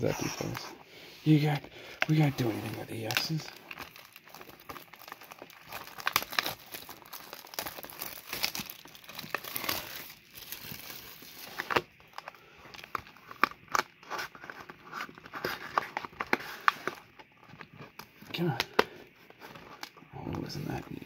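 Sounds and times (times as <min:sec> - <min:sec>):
plastic wrap crinkling and tearing: 0:01.3 - 0:20.0.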